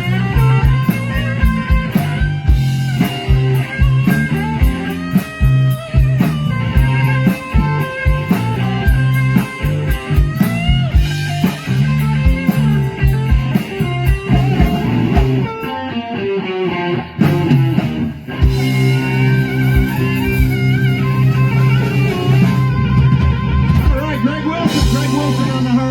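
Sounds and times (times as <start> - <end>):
bass line: 0.0 - 25.9
blues band playing: 0.0 - 25.9
drum kit: 0.0 - 25.9
electric guitar bending notes: 0.0 - 25.9.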